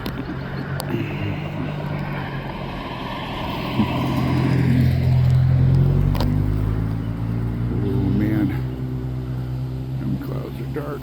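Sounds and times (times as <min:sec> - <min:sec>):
car driving past: 0:00.8 - 0:10.7.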